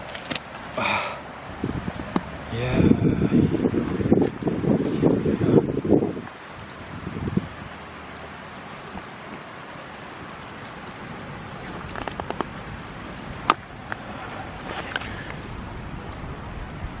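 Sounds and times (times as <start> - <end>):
wind and water noise: 0.0 - 17.0.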